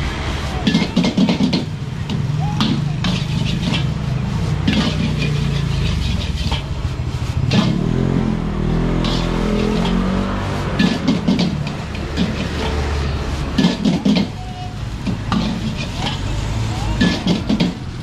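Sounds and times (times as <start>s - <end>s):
vehicle engine passing: 0.0s - 18.0s.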